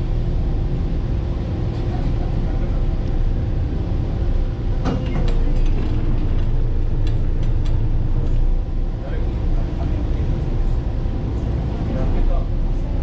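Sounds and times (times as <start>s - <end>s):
ferry engine rumble: 0.0s - 13.0s.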